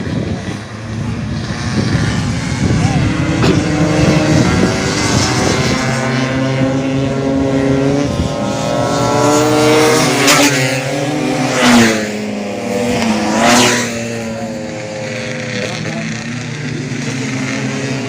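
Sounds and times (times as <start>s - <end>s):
scooter engines revving hard: 0.0s - 18.0s.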